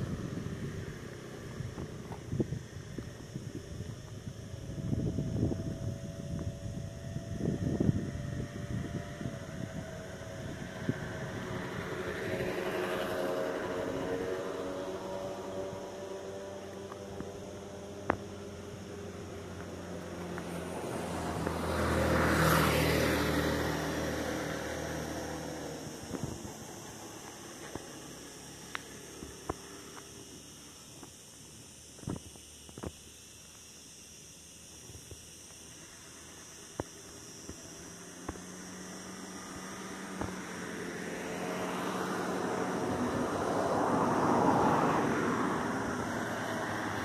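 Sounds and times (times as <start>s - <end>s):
motor vehicle passing by: 0.0s - 3.3s, 4.6s - 30.9s, 37.7s - 47.0s
engine hum: 0.0s - 47.0s.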